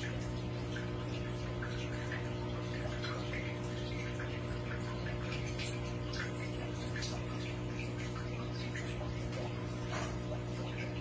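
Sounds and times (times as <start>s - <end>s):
low filter hum: 0.0s - 11.0s
water trickling and splashing: 0.0s - 11.0s.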